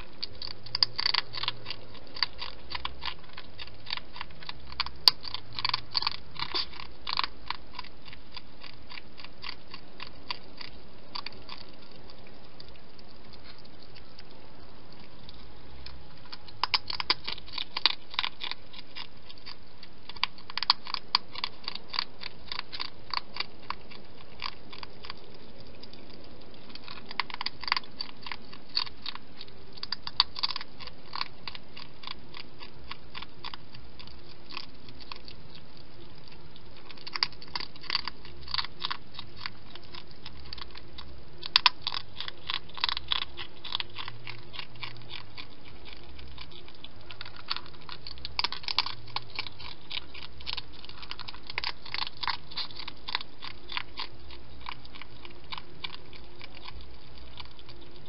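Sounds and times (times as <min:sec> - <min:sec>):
hedgehog crunchy chewing: 0:00.0 - 0:58.0
steady background hiss: 0:00.0 - 0:58.0.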